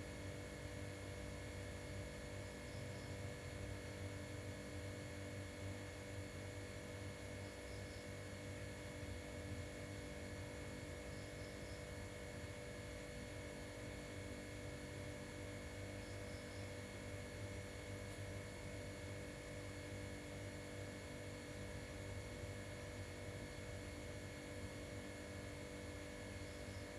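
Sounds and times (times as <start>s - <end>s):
low electrical hum: 0.0s - 26.9s.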